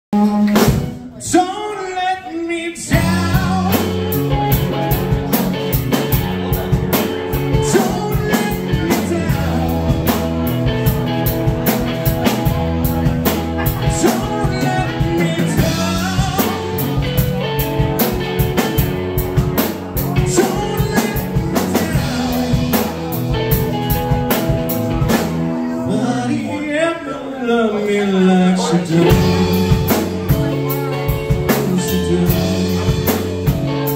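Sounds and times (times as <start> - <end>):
loud live rock band: 0.1 - 33.9.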